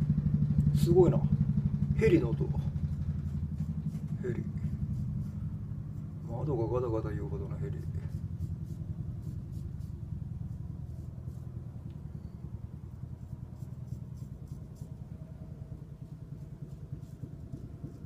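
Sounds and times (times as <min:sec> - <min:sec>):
helicopter rotor beats: 0:00.0 - 0:18.0.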